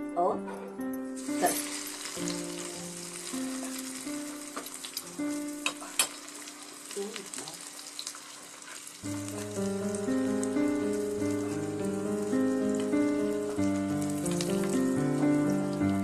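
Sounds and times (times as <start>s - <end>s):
chicken frying in oil: 1.2s - 16.0s.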